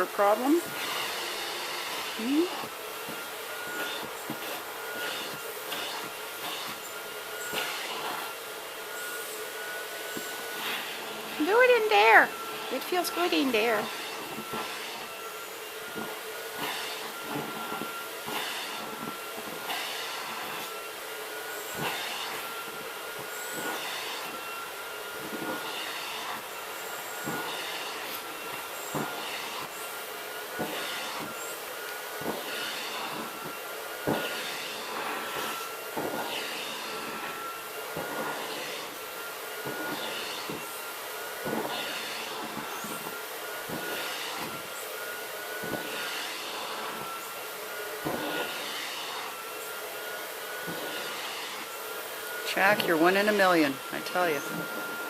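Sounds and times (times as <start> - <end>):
nozzle swishing over fur: 0.0 - 55.0
vacuum cleaner whine and hiss: 0.0 - 55.0.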